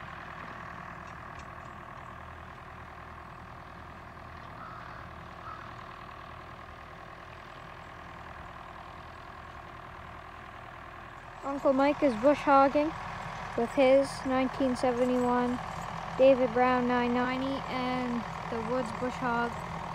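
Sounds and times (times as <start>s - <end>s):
rotary mower cutting: 0.0s - 19.9s
tractor engine under load: 0.0s - 19.9s.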